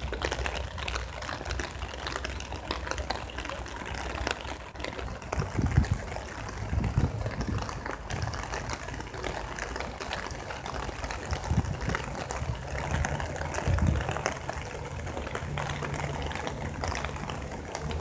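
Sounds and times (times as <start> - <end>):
rain falling: 0.0 - 18.0
raindrops ticking: 0.0 - 18.0.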